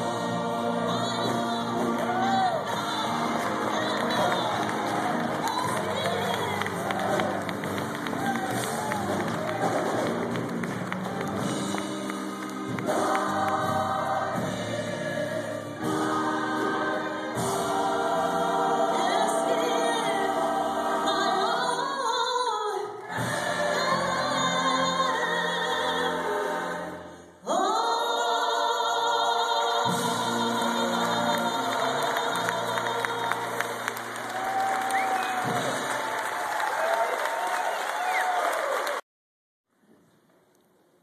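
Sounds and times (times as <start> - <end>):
gospel choir singing: 0.0 - 36.9.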